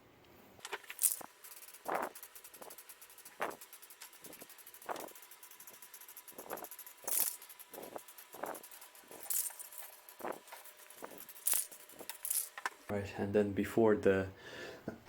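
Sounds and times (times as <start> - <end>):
spray paint hissing bursts: 0.6 - 12.9.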